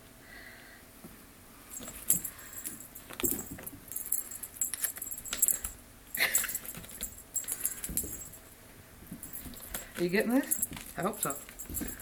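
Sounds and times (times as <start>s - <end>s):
cat playing with feather toy: 1.7s - 8.5s, 9.1s - 12.0s.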